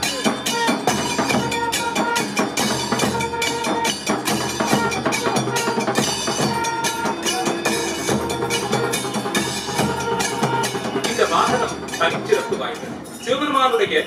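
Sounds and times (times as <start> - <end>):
long brass horns holding notes: 0.0 - 12.9
fast drumming and percussion: 0.0 - 14.0.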